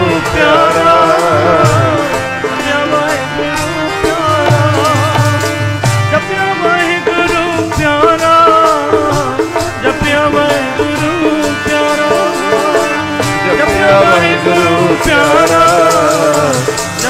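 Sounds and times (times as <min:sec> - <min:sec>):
devotional music melody: 0:00.0 - 0:17.0.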